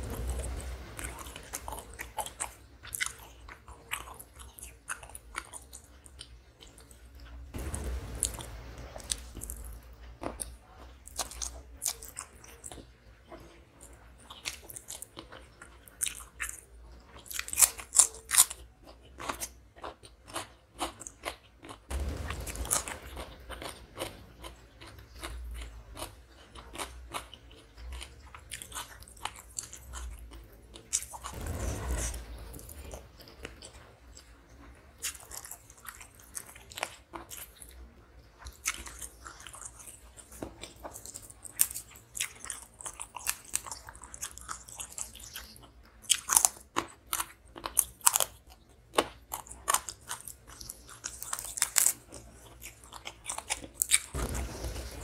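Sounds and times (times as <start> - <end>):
chewing and crunching food: 0.0 - 7.6, 9.0 - 55.0.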